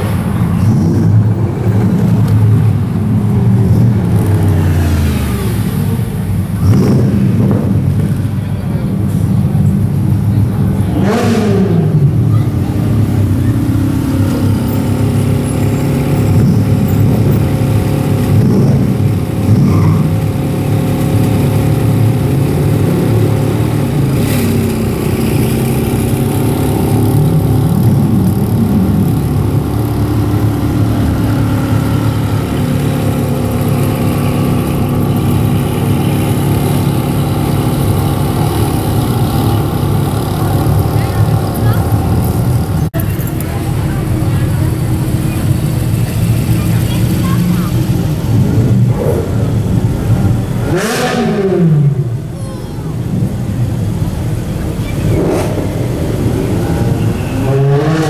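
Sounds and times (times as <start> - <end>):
engine throttle revs: 0.0 - 8.3, 9.9 - 52.4, 53.0 - 58.0
sports car engines idling: 0.0 - 57.5.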